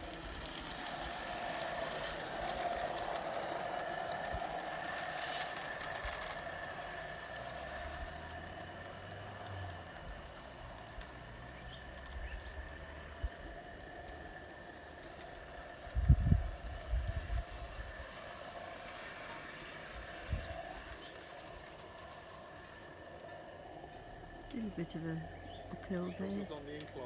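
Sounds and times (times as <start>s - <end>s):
model steam locomotive hissing: 0.0s - 27.0s.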